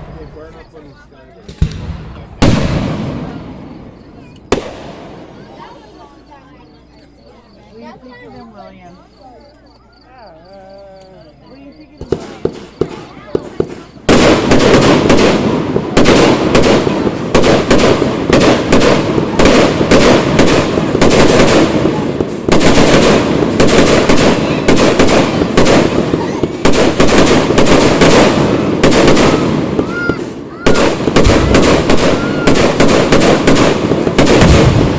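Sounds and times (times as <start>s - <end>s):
fireworks bursting: 0.0s - 10.1s, 11.1s - 34.9s.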